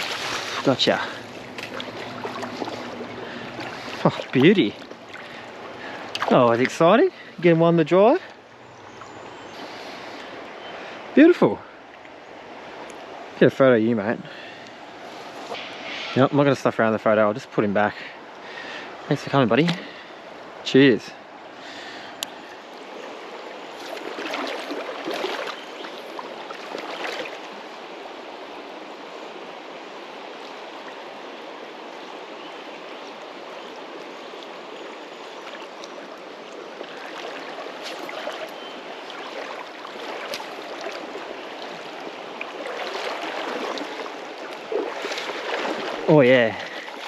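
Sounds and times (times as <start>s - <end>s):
creek water running over stones: 0.0s - 47.0s.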